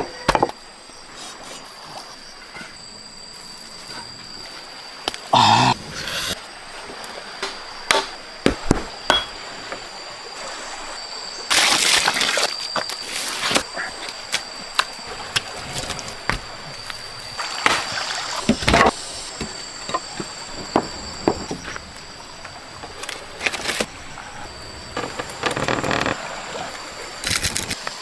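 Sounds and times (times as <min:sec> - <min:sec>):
water splashing and sloshing: 0:00.5 - 0:28.0.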